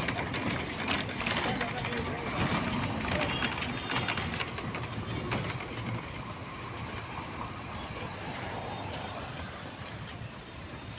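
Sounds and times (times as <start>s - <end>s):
road traffic hum: 0.0s - 10.9s.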